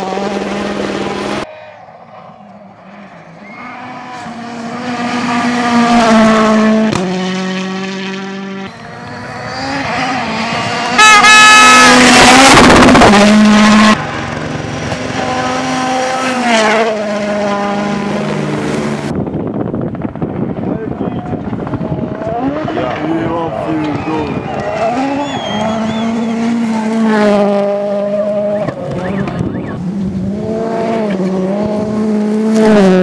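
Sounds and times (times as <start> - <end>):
rally car engine at full throttle: 0.0 - 33.0.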